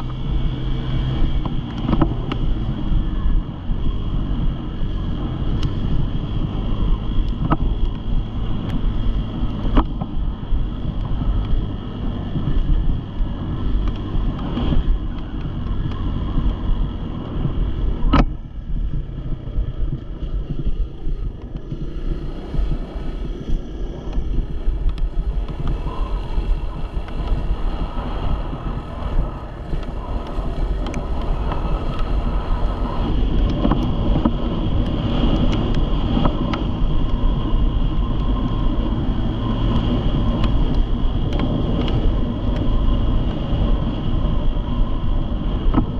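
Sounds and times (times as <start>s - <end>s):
engine running: 0.0s - 45.9s
wind buffeting microphone: 0.0s - 45.9s.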